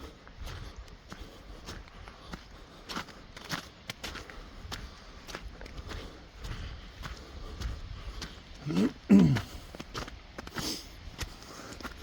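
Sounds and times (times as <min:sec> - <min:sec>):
footsteps on a trail: 0:00.0 - 0:12.0.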